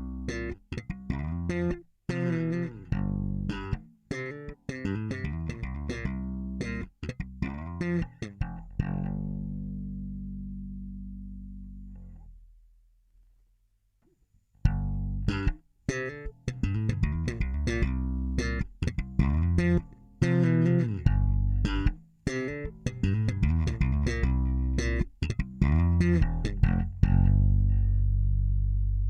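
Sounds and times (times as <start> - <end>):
electric bass plucked notes: 0.0 - 12.6, 14.6 - 29.0.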